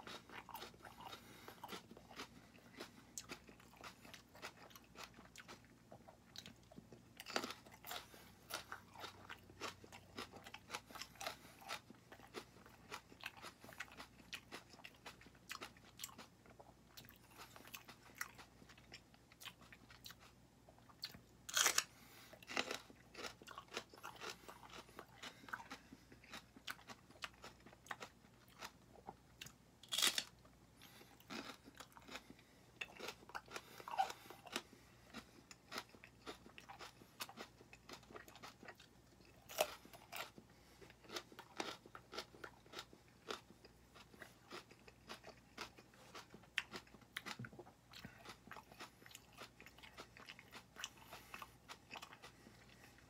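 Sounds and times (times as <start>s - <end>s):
person chewing crunchy peppers: 0.0s - 53.0s.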